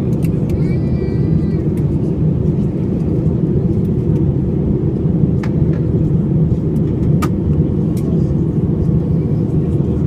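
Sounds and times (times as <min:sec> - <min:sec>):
aircraft engines rumbling: 0:00.0 - 0:10.0.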